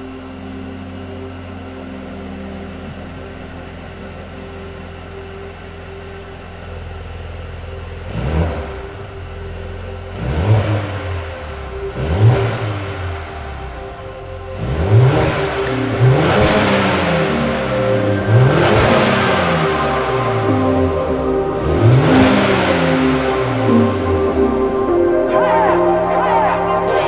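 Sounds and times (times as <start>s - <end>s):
car engine idling: 0.0s - 27.0s
car engine revving: 0.0s - 27.0s.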